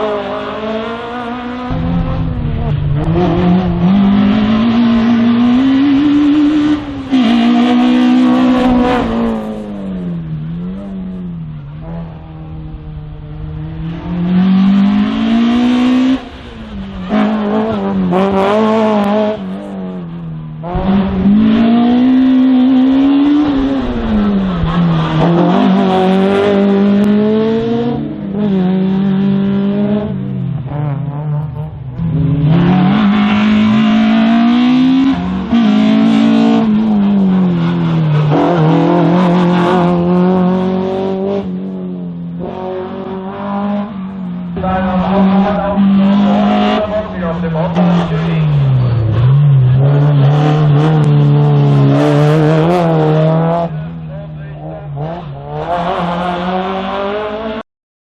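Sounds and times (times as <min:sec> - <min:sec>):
race car engine revving: 0:00.0 - 0:57.6.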